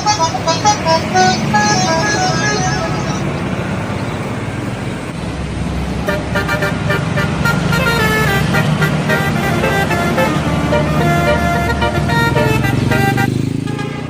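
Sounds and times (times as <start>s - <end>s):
bus horn playing a tune: 0.0s - 3.5s, 6.0s - 14.0s
bus engine rumble: 0.0s - 14.0s
traffic: 0.0s - 14.0s.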